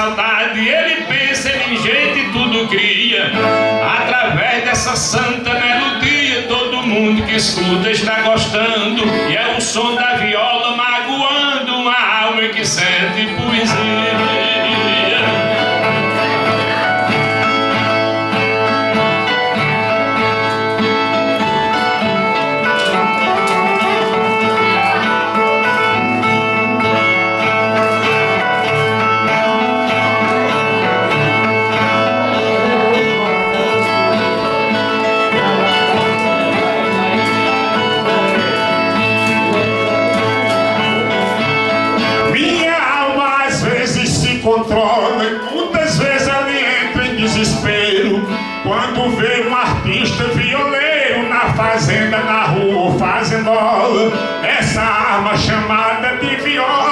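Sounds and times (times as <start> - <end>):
plucked string instrument: 0.0 - 56.9.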